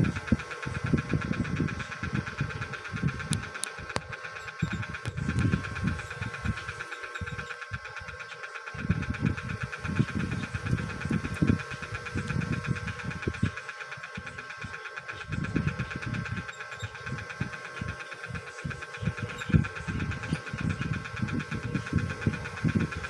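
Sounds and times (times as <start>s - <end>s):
pulsing machine hum: 0.0s - 23.0s.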